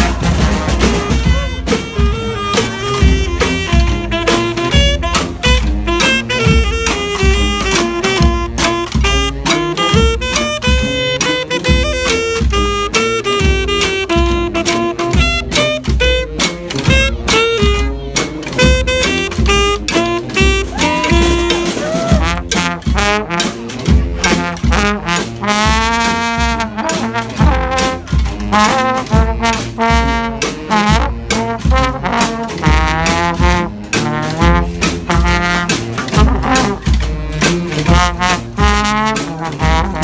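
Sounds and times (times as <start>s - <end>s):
brass band playing: 0.0s - 40.0s
steady drum beat: 0.0s - 40.0s.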